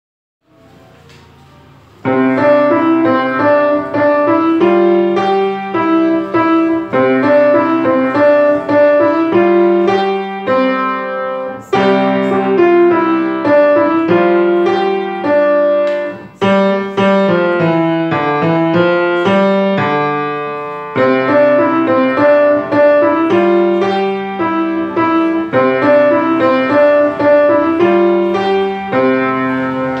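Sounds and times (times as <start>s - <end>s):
grand piano playing: 0.4s - 30.0s.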